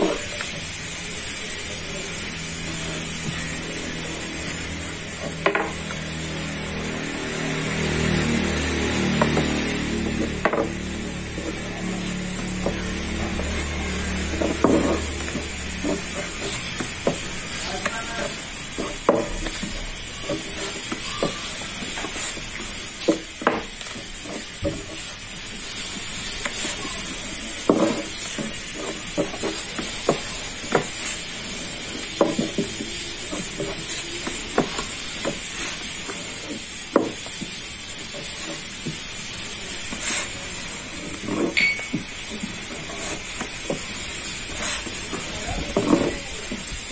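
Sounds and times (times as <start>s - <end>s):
steady hiss: 0.0s - 46.9s.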